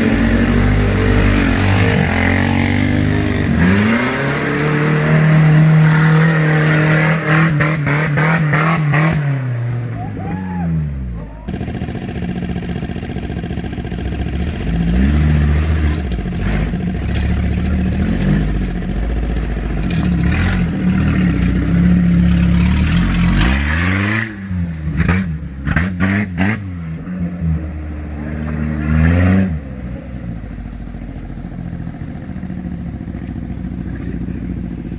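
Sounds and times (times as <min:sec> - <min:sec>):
off-road vehicle engine revving: 0:00.0 - 0:34.9.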